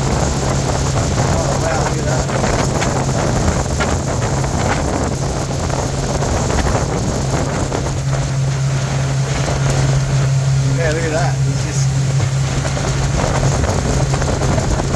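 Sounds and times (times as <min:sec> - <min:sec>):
motorboat engine running: 0:00.0 - 0:14.9
water rushing from hull: 0:00.0 - 0:14.9
wind buffeting microphone: 0:00.0 - 0:14.9.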